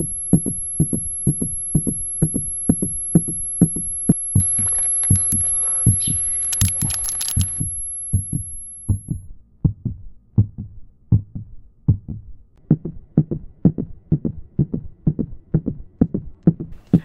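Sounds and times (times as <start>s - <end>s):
heartbeat thumps: 0.0s - 17.0s.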